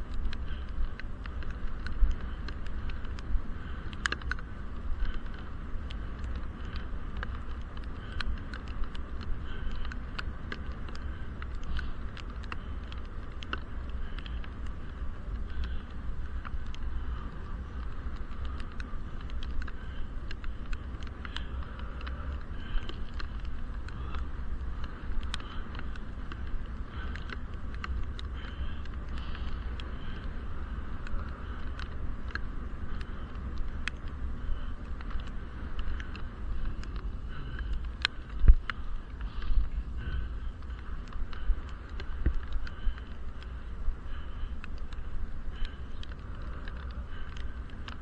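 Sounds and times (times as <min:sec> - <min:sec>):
muffled wind and road rumble: 0:00.0 - 0:48.0
raindrops ticking on camera case: 0:00.0 - 0:48.0.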